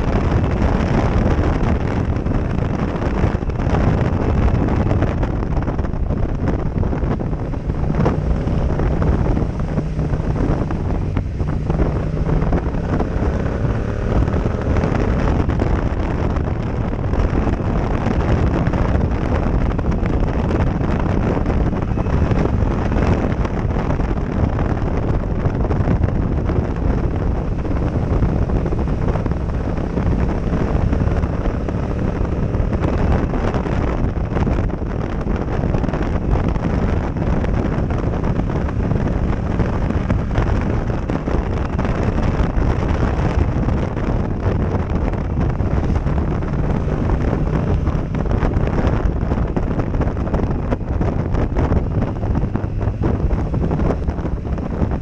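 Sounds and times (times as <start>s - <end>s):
motorcycle engine hum: 0.0s - 55.0s
wind buffeting microphone: 0.0s - 55.0s.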